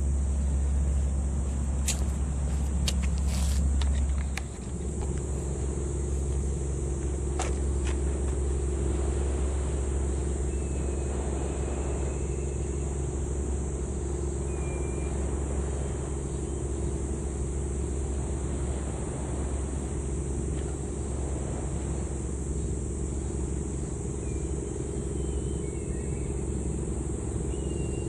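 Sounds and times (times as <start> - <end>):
faint steady hum: 0.0 - 28.0
low outdoor rumble: 0.0 - 28.0.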